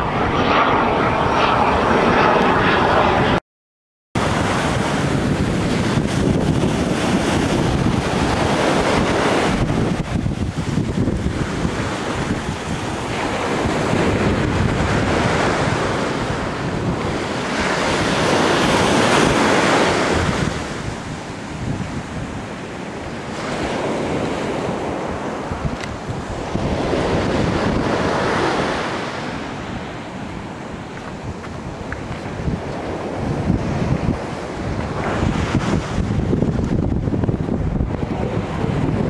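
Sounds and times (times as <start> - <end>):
ocean surf breaking: 4.2 - 39.0
wind buffeting microphone: 4.2 - 39.0.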